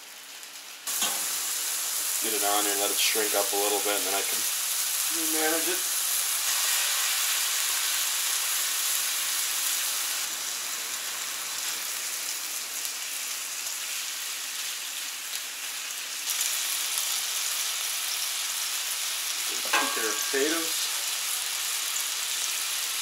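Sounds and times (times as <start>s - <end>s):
bacon sizzling on a griddle: 0.0s - 23.0s.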